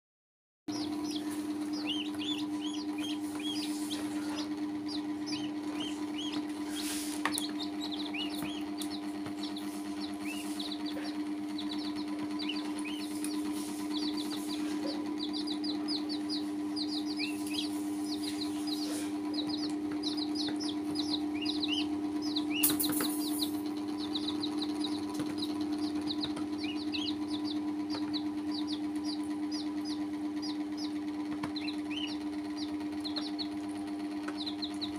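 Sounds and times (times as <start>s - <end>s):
chicks and duckling peeping: 0.7s - 34.9s
steady low hum: 0.7s - 34.9s.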